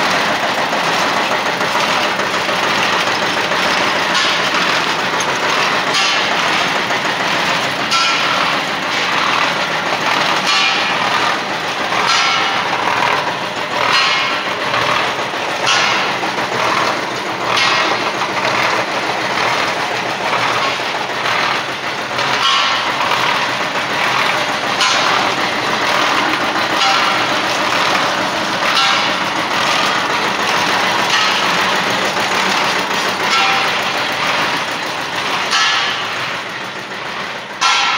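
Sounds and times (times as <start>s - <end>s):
boring machine engine running: 0.0s - 37.9s
metallic clanks: 0.0s - 37.9s.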